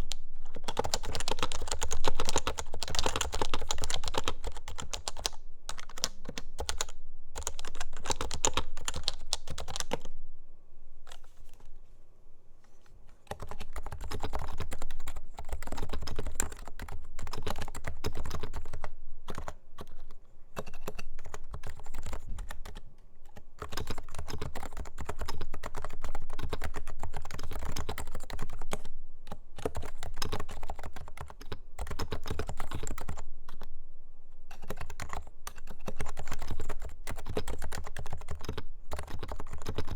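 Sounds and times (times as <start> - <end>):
fast typing on keyboard: 0.0 - 10.1, 13.3 - 33.2, 34.5 - 39.9.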